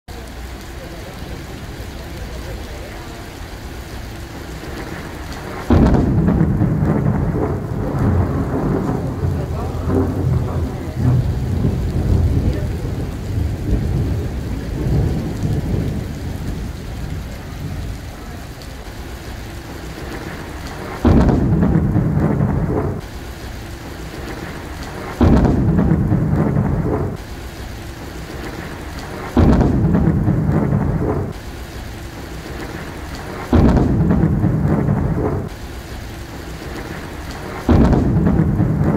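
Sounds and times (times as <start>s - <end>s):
rain on wet pavement: 0.0s - 38.9s
thunder rumbling: 0.2s - 38.9s.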